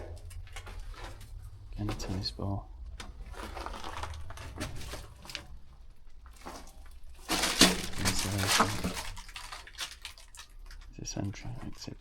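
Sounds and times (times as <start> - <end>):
crackles: 0.0 - 12.0
footsteps crunching over debris: 0.0 - 12.0.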